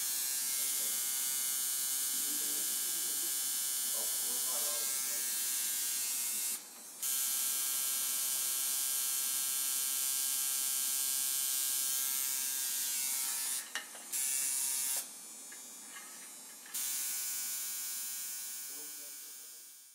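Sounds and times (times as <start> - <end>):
tattoo machine buzzing: 0.0 - 19.9.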